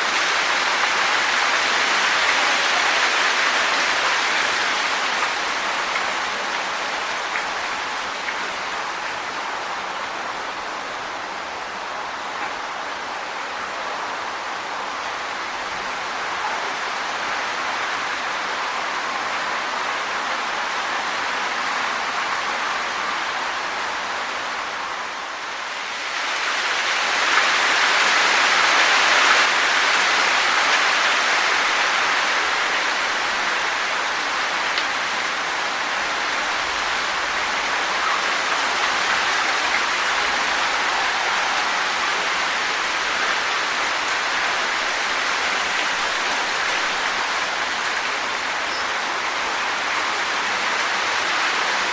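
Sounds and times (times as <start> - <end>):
wind rustling tree leaves: 0.0 - 51.9.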